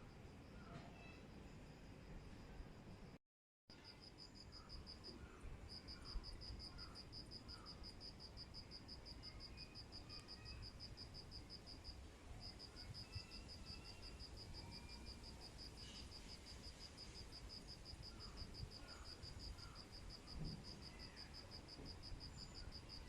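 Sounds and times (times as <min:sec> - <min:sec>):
insect chirping: 0:03.7 - 0:23.0.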